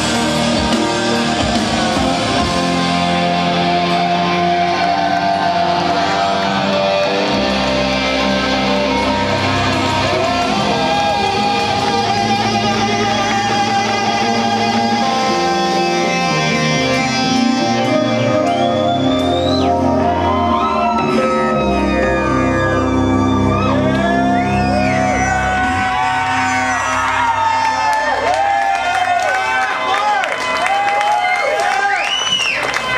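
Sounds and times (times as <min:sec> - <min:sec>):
rock band playing loudly: 0:00.0 - 0:29.2
high sliding tone: 0:00.7 - 0:27.7.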